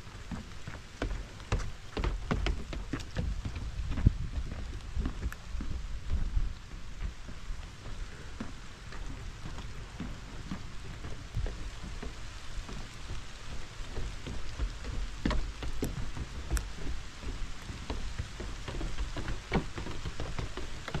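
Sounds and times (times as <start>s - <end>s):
rain falling: 0.0s - 21.0s
sharp ticks of raindrops: 0.0s - 21.0s.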